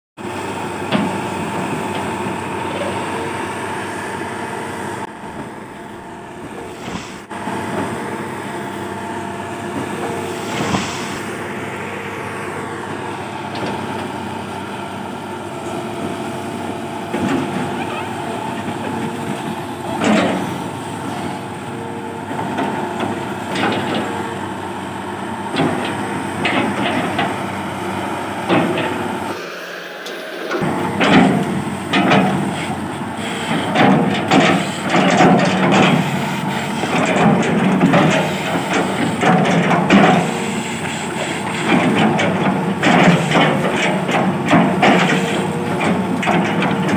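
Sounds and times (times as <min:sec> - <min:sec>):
excavator diesel engine running: 0:00.2 - 0:46.9.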